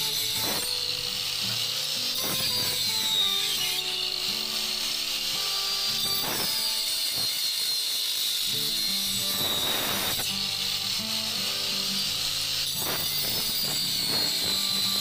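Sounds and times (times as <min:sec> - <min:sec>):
angle grinder cutting wood: 0:00.0 - 0:15.0.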